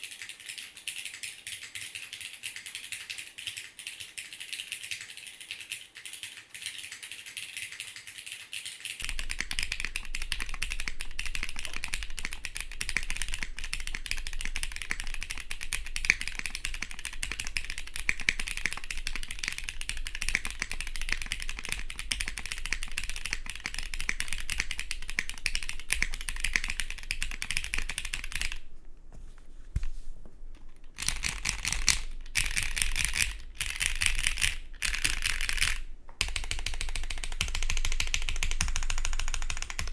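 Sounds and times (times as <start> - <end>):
mechanical keyboard typing: 0.0 - 28.7, 30.7 - 39.9.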